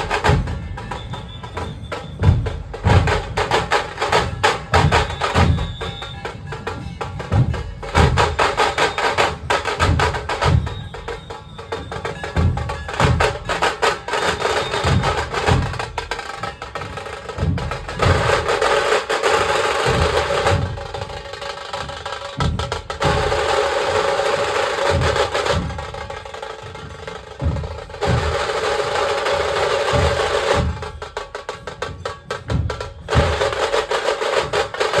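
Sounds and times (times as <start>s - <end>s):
dhol drums beating: 0.0s - 35.0s
tasha drums striking: 0.0s - 35.0s.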